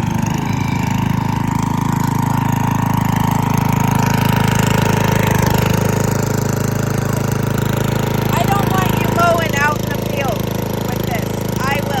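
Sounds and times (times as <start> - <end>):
lawnmower engine running: 0.0 - 12.0.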